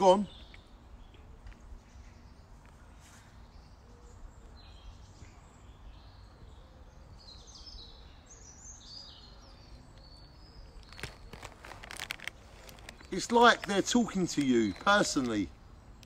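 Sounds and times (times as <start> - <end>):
low background noise: 0.0 - 16.0
small birds chirping: 0.0 - 16.0.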